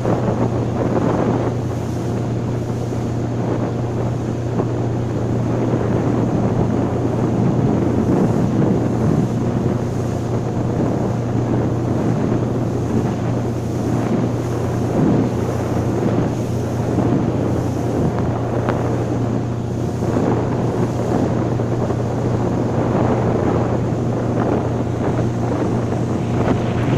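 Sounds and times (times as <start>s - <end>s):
motorboat engine drone: 0.0s - 26.9s
wind buffeting microphone: 0.0s - 26.9s.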